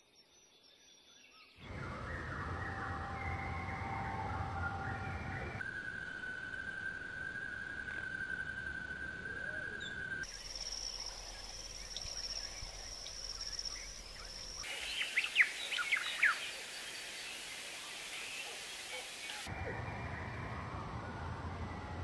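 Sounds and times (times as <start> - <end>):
bird chirps: 0.2 - 20.3.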